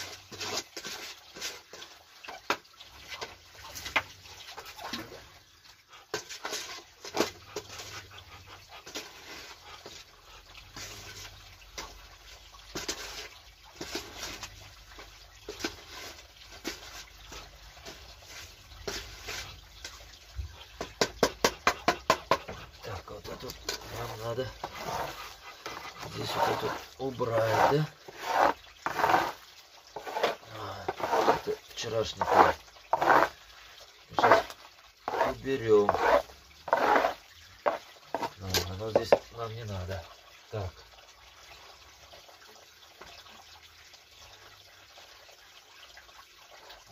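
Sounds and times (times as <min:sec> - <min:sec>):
feed mixed in container: 0:00.0 - 0:40.0.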